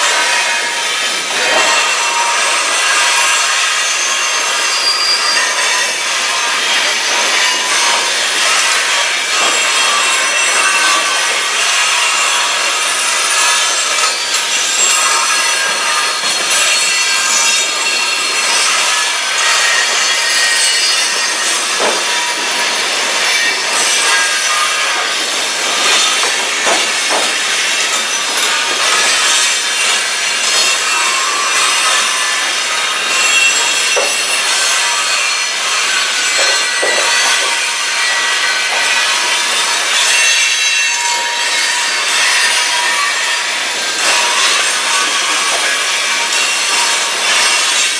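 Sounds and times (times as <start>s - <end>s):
steel wheels screeching on rails: 0.0s - 47.9s
train cars rolling by: 0.0s - 47.9s
train clunks: 0.0s - 47.9s.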